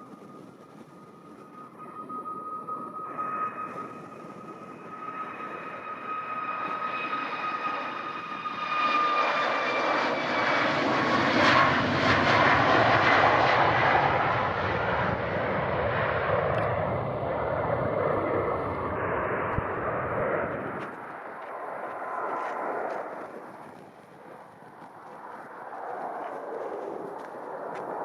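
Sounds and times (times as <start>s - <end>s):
airplane engines roaring: 0.0s - 28.0s.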